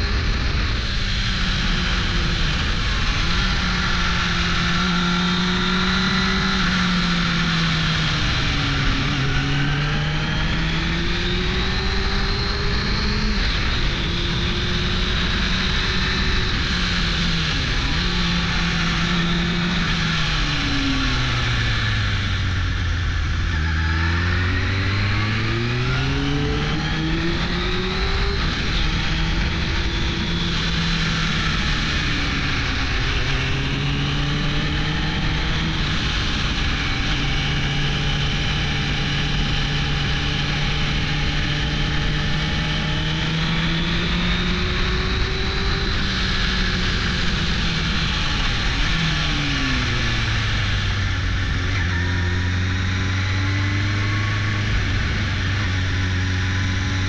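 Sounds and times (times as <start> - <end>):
motorcycle engine revving: 0.0 - 57.0
wind noise: 0.0 - 57.0.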